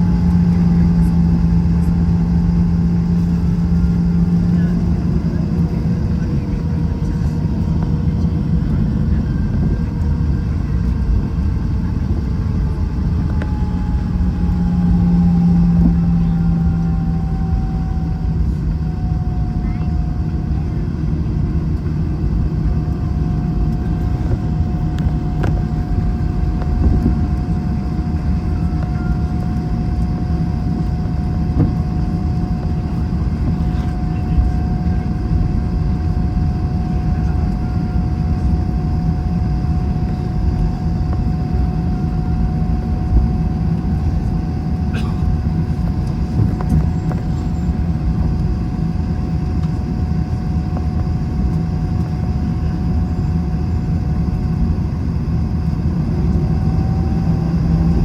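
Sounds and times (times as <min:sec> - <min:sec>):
aircraft cabin rumble: 0:00.0 - 0:58.0
mid-pitched whine: 0:00.0 - 0:58.0.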